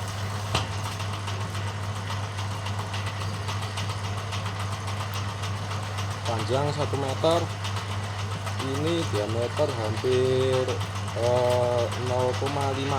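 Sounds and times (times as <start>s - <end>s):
fast patter of light ticks: 1.2s - 12.9s.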